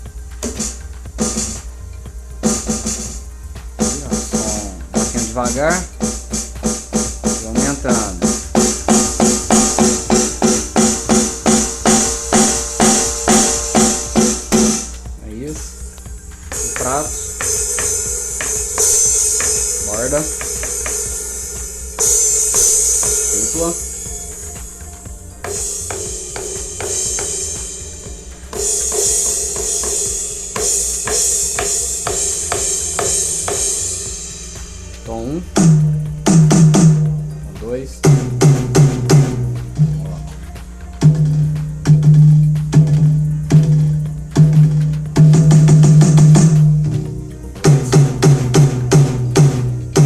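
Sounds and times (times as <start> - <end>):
electronic cymbal crashes: 0.0 - 50.0
fast drum roll: 2.4 - 24.8, 25.4 - 50.0.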